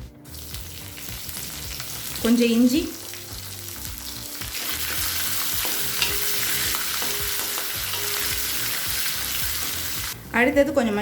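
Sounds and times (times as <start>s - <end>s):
spices sizzling in hot oil: 0.0s - 10.2s.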